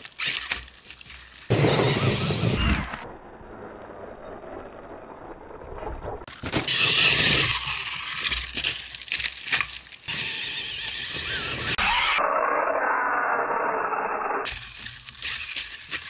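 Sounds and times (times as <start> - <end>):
rc truck tyres scrabbling on dirt: 0.0 - 16.0.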